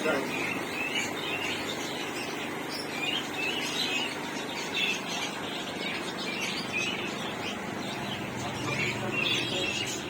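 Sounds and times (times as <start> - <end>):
caged birds chirping: 0.0 - 10.0.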